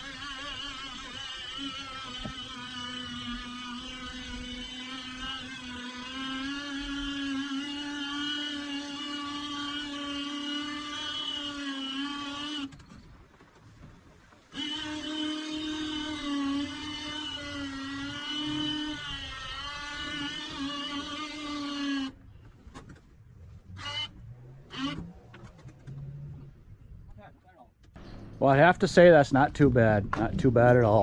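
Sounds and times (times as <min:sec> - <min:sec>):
boat motor running: 0:00.0 - 0:31.0.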